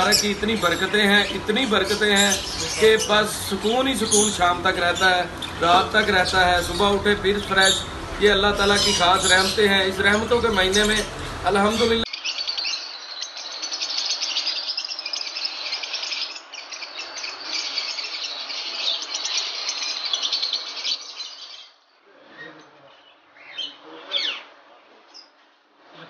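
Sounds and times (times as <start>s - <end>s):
lovebirds chirping: 0.0s - 21.8s.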